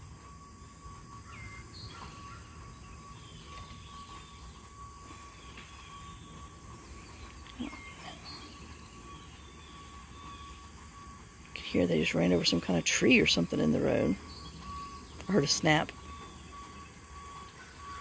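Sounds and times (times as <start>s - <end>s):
insect drone: 0.0s - 18.0s
bird chirps: 0.6s - 18.0s.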